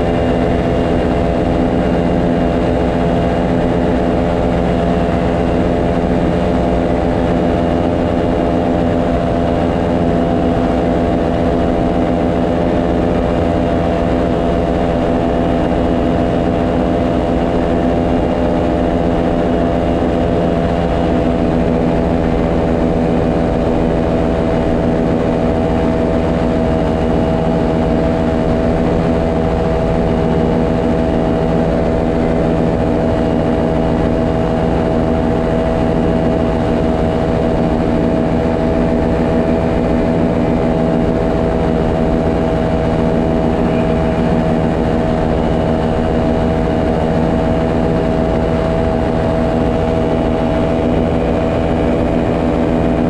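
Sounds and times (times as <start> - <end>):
paramotor engine drone: 0.0 - 53.0.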